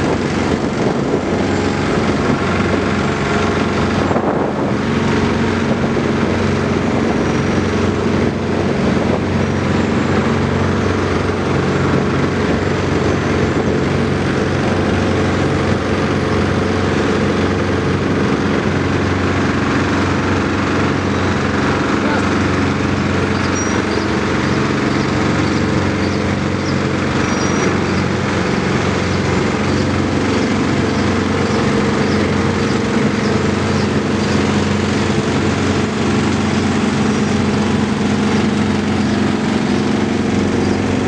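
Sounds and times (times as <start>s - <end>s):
road works machinery engine: 0.0s - 41.0s.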